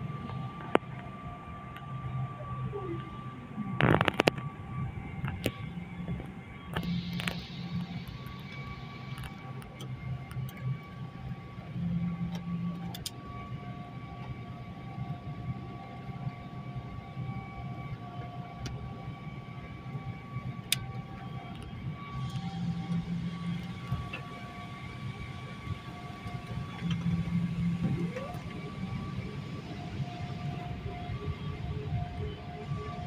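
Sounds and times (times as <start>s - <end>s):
airliner cabin drone: 0.0s - 33.0s.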